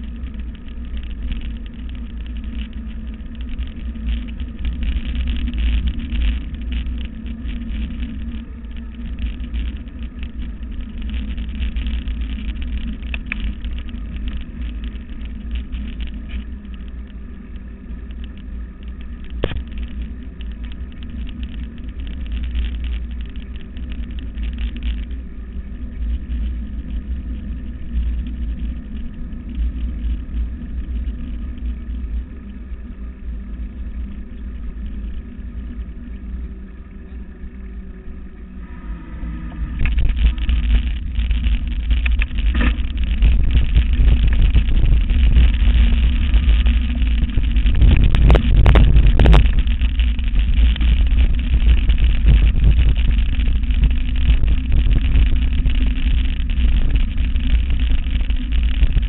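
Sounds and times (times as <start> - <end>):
bike rattling on dirt track: 0.0 - 38.9, 39.5 - 59.0
bike tyres humming on asphalt: 0.0 - 59.0.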